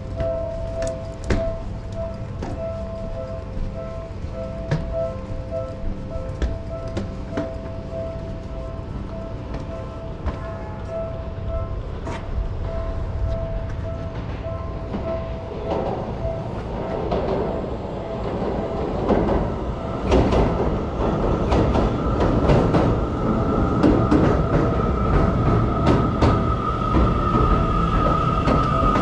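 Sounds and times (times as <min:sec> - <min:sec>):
high train whine: 0:00.0 - 0:29.0
train wheels clacking on rails: 0:00.0 - 0:29.0.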